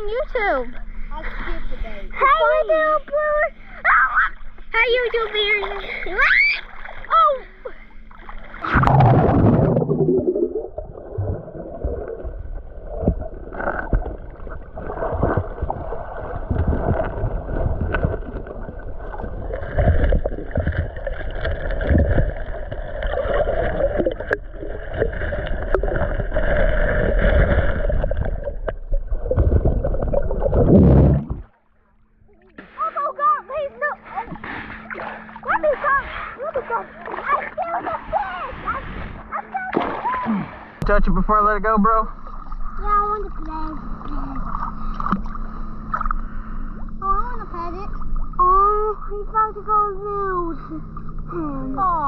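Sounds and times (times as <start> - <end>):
water sloshing and gurgling: 0.0 - 52.0.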